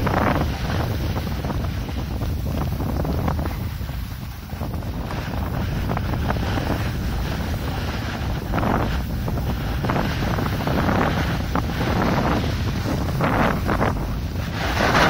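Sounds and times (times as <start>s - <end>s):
snowboard scraping snow: 0.0s - 15.0s
wind buffeting microphone: 0.0s - 15.0s.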